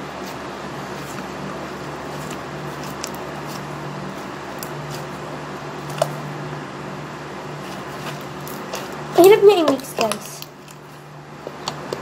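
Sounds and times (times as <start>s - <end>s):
steady low hum: 0.0s - 12.0s
slime being kneaded: 0.1s - 6.2s, 7.6s - 12.0s.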